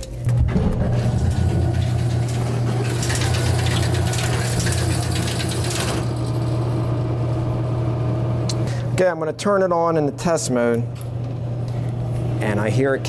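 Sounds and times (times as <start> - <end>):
soda machine humming: 0.0 - 13.0.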